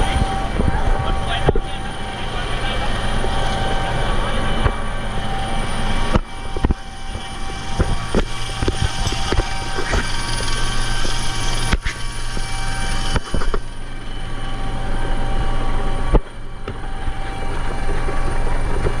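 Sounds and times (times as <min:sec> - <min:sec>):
helicopter engine and rotor: 0:00.0 - 0:19.0.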